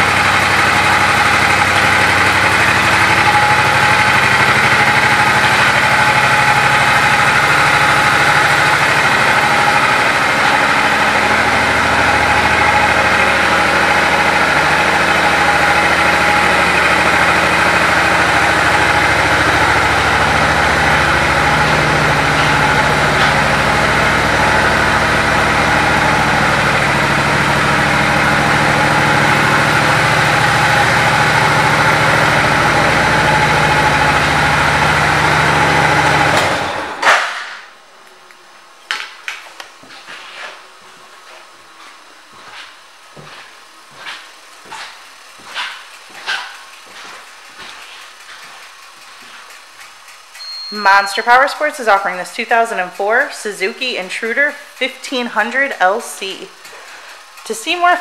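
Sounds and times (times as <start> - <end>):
motorcycle engine idling: 0.0 - 37.0, 44.6 - 58.0.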